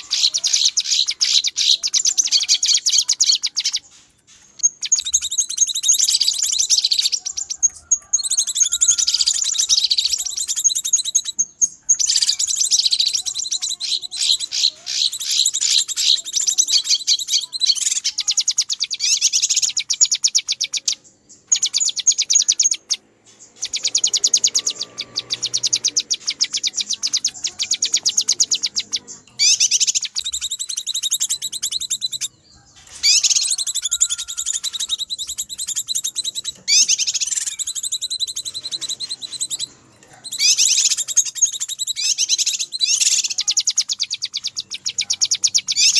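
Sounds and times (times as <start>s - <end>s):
bulbul rapid chattering calls: 0.0s - 45.9s.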